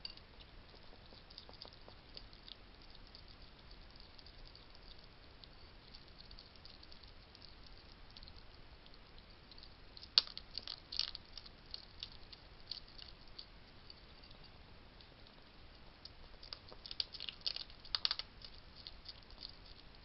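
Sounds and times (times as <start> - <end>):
hedgehogs crunching food: 0.0 - 14.4, 15.0 - 20.0.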